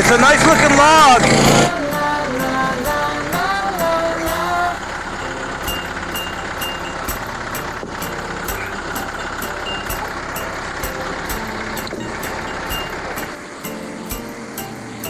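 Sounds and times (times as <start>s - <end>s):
sawmill engine running: 0.0s - 15.0s
light high ticking: 1.8s - 15.0s.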